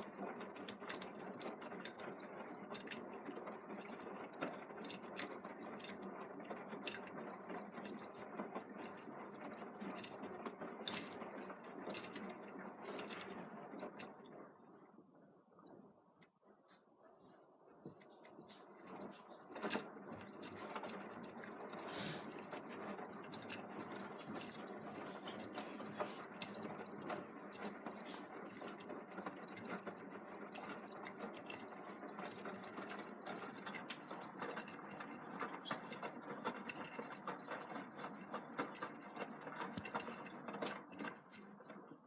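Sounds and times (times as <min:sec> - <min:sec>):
washing machine drum churning: 0:00.0 - 0:16.5, 0:17.6 - 0:42.0.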